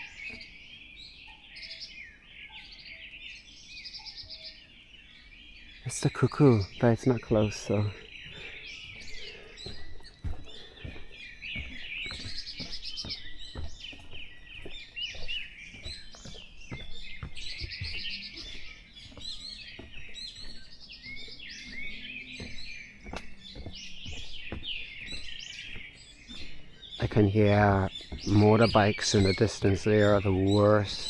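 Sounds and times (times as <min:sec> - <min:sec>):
birds chirping and trilling: 0:00.0 - 0:31.0.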